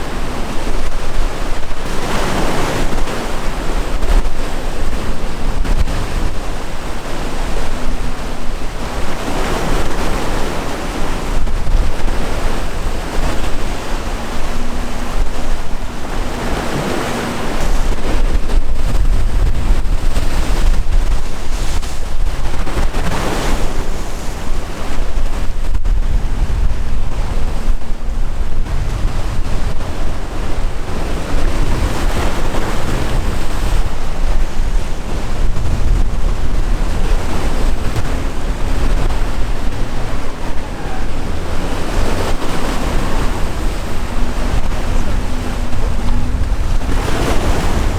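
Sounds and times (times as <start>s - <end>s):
sea waves breaking: 0.0s - 47.9s
wind buffeting microphone: 0.0s - 47.9s.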